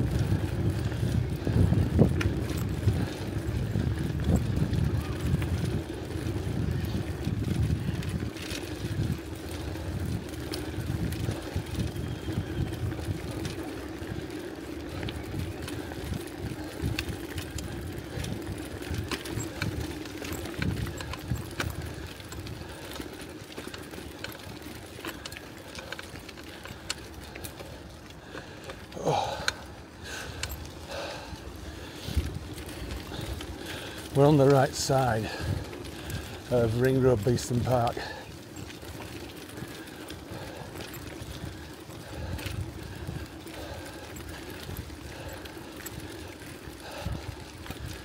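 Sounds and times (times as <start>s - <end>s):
bicycle clicks and rattles: 0.0s - 48.0s
bicycle tyres on gravel: 0.0s - 48.0s
low irregular rumble: 0.0s - 48.0s.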